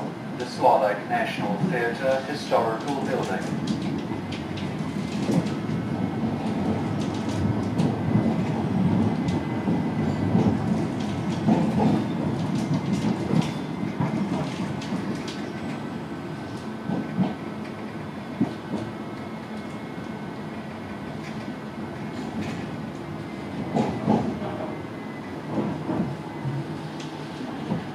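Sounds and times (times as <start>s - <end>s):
tram wheels rumbling on rails: 0.0s - 27.9s.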